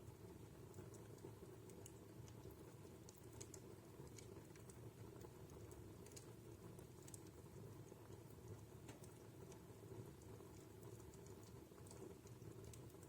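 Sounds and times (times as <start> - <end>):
fire crackling with small pops: 0.0 - 13.0.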